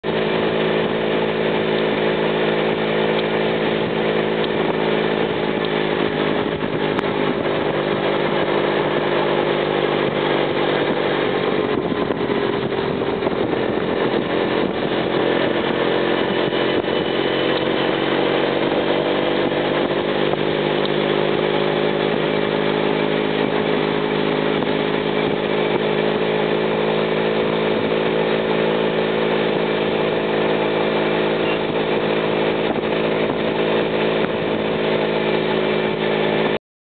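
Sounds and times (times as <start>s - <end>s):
moped engines buzzing: 0.0s - 36.6s.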